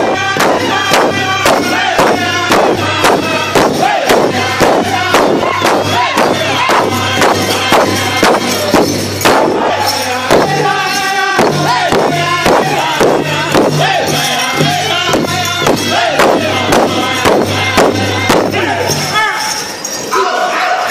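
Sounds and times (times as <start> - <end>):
large drum beating fast: 0.0 - 10.8, 11.4 - 19.1
group of voices singing: 0.0 - 20.9.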